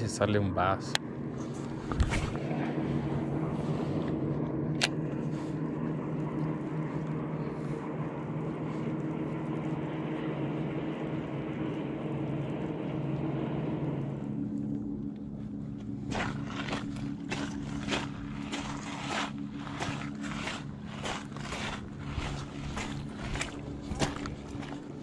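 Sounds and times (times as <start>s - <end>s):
engine droning: 0.0s - 25.0s.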